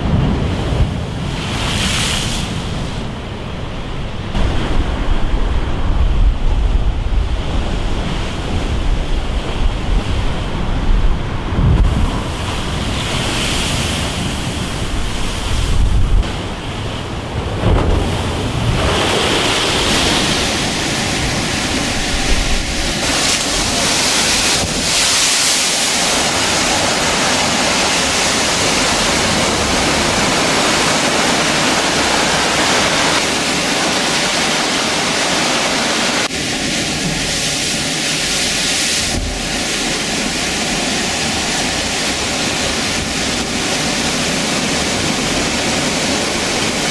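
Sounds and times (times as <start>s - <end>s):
surf crashing: 0.0s - 46.9s
wind buffeting microphone: 0.0s - 46.9s.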